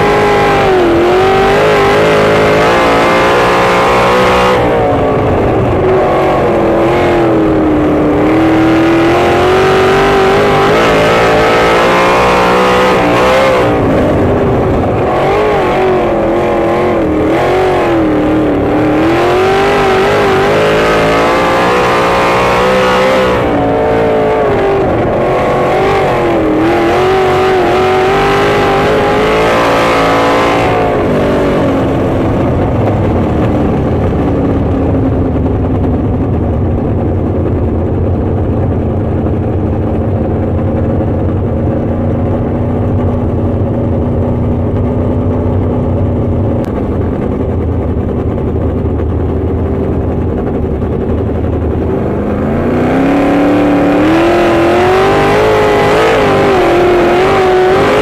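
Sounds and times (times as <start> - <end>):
race car engine revving: 0.0 - 36.4, 37.0 - 58.0.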